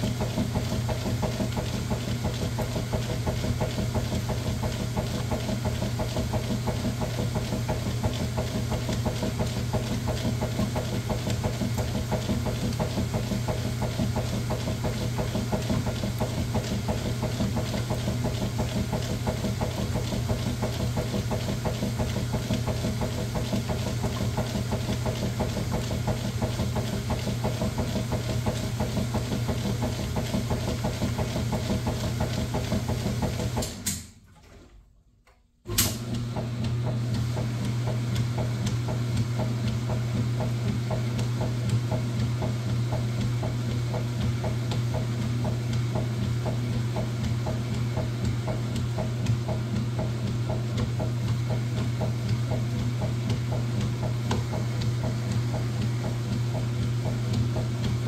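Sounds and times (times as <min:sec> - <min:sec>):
washing machine agitation churning: 0:00.0 - 0:34.7, 0:35.7 - 0:58.0
washing machine motor hum: 0:00.0 - 0:58.0.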